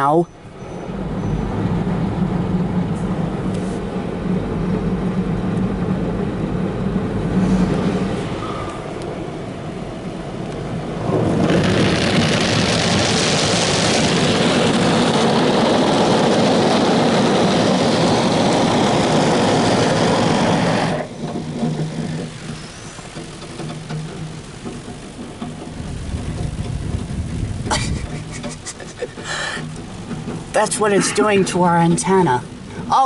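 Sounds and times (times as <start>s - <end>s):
car wash brushes and water: 0.0s - 33.0s
low rumble: 0.3s - 23.2s, 24.1s - 32.9s.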